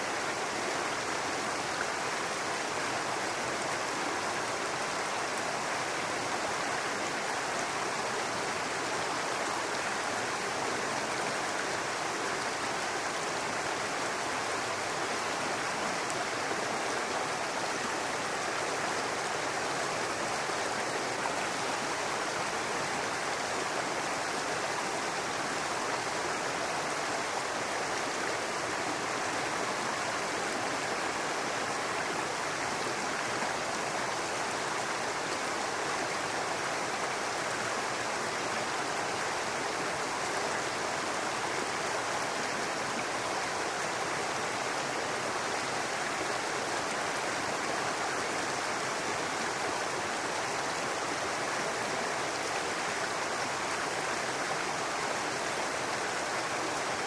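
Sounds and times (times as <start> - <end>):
brook babbling over rocks: 0.0 - 57.0.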